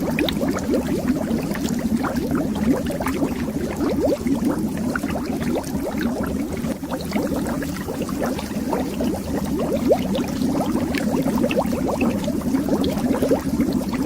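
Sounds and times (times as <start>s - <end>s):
bubbles rising underwater: 0.0s - 14.0s.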